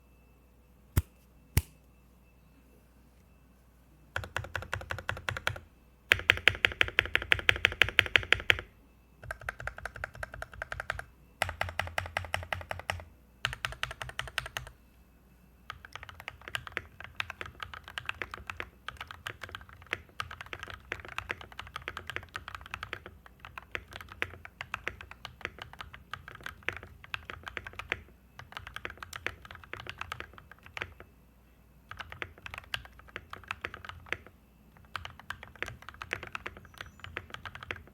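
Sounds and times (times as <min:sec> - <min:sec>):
mechanical keyboard typing: 0:04.2 - 0:14.7, 0:15.7 - 0:31.1, 0:31.9 - 0:37.9.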